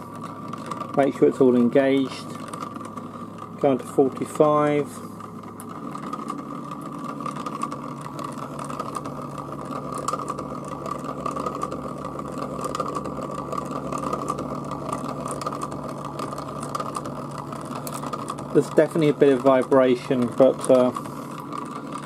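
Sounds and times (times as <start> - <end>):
motor mechanical whine: 0.0 - 22.0.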